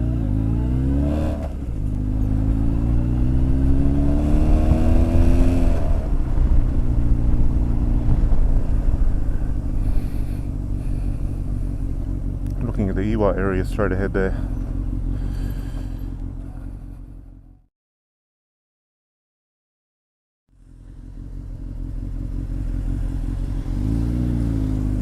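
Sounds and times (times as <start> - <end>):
motorcycle engine revving: 0.0 - 17.6, 20.5 - 25.0.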